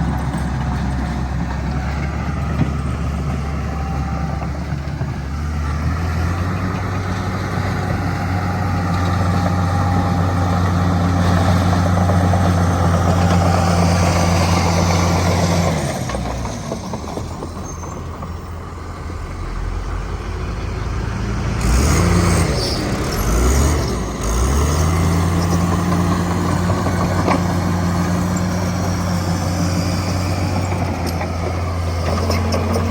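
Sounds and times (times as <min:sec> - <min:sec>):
bulldozer diesel engine: 0:00.0 - 0:32.9.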